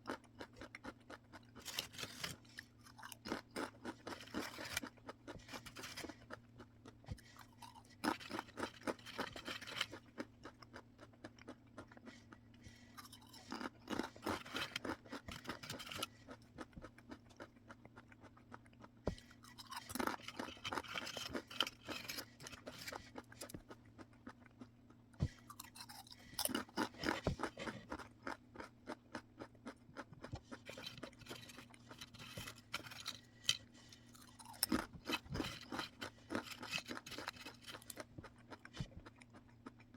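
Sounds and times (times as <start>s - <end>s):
crunching a crisp snack: 0.0s - 24.7s, 25.3s - 39.9s.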